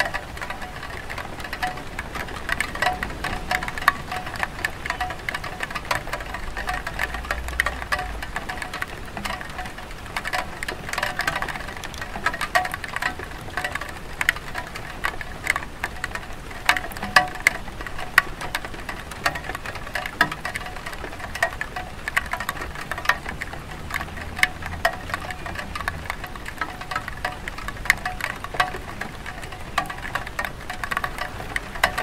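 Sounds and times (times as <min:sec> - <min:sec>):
light rain on a tile roof: 0:00.0 - 0:32.0
water drops pattering: 0:00.0 - 0:32.0.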